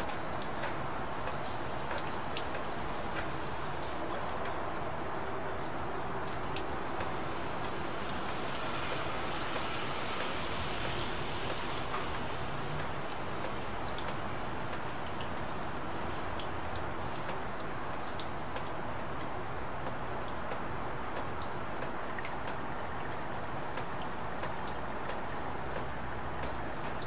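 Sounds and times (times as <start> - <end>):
rain hiss: 0.0 - 27.0
raindrops ticking: 0.0 - 27.0.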